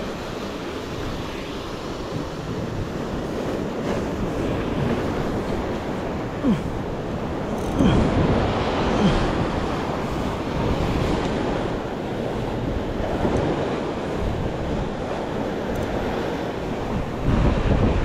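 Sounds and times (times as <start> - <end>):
sea waves washing in: 0.0 - 18.0
wind on microphone: 0.0 - 18.0.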